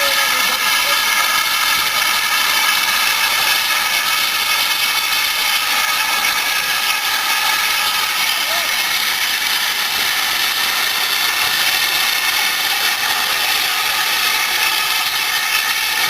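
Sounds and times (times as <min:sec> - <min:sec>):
locomotive venting steam hiss: 0:00.0 - 0:16.0.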